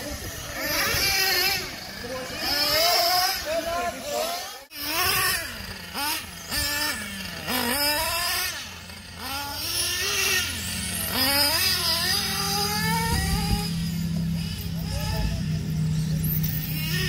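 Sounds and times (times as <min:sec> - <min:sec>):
model car engines revving: 0:00.0 - 0:17.0.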